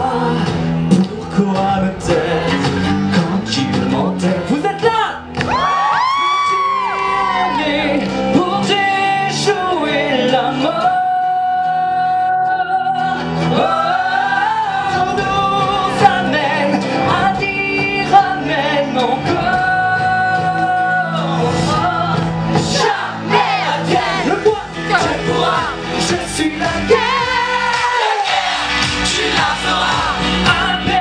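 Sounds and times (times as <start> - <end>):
man singing into microphone: 0.0 - 5.0, 5.9 - 23.0, 23.7 - 28.3, 29.1 - 31.0
backing music through speakers: 0.0 - 31.0.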